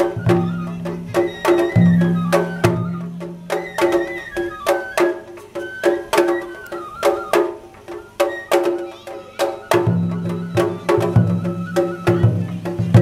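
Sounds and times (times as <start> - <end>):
bamboo flute melody: 0.0 - 13.0
drums struck in steady rhythm: 0.0 - 13.0.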